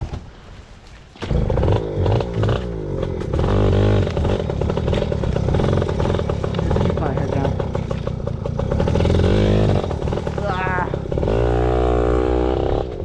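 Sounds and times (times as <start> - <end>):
two-stroke bike engine revving: 1.2 - 13.0.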